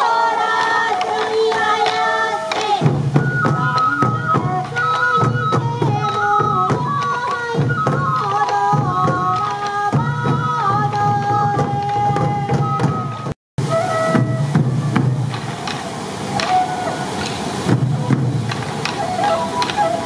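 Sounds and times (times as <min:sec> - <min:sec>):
bamboo flute melody: 0:00.0 - 0:20.0
taiko drums beaten in rhythm: 0:01.0 - 0:19.9.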